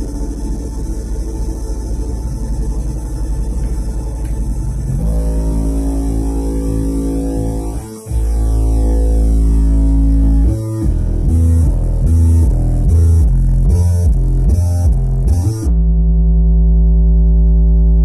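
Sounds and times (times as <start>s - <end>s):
loud music with deep bass: 0.0s - 18.0s.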